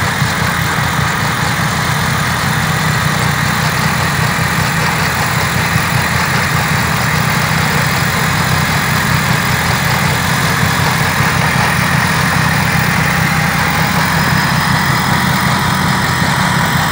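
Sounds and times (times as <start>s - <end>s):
snow blower rushing: 0.0s - 16.9s
tractor diesel engine running: 0.0s - 16.9s.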